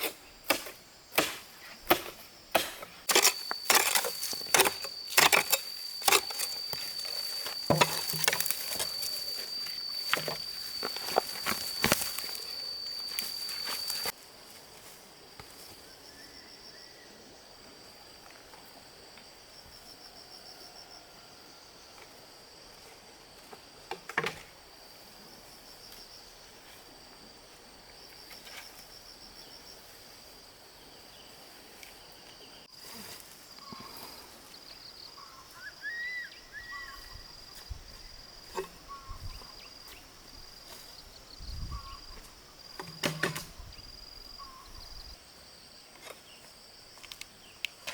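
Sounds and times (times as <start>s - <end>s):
insects trilling: 0.0s - 47.9s.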